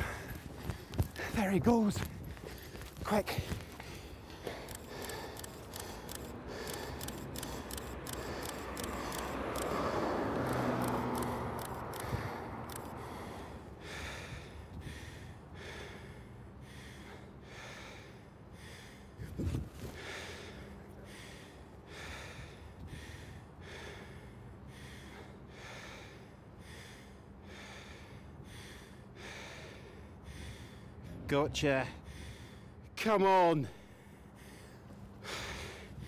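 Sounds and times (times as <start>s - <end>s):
man breathing hard: 0.0s - 31.3s, 31.9s - 33.0s, 33.7s - 36.0s.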